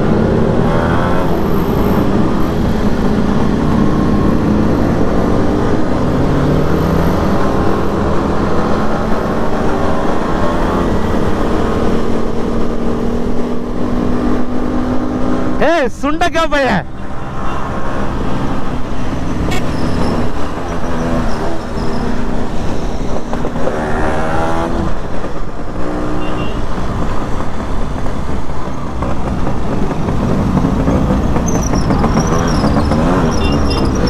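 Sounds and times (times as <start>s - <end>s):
other motorcycles riding alongside: 0.0s - 34.0s.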